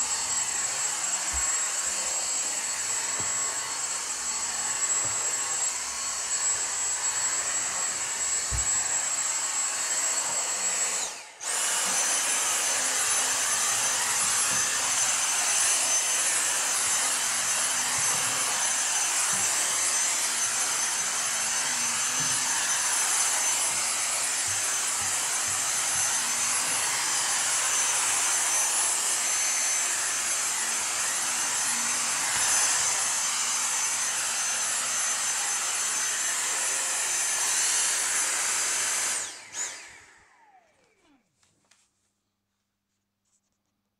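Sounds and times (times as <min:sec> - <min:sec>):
vacuum cleaner motor whine: 0:00.0 - 0:41.4.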